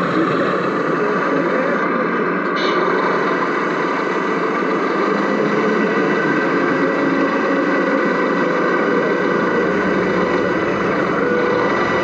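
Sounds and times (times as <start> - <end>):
model truck motor running: 0.0 - 12.0.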